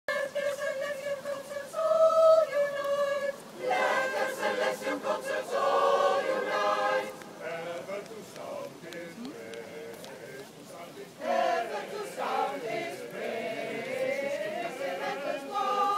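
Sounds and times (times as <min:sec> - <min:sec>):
mixed choir singing a cappella: 0:00.1 - 0:15.9.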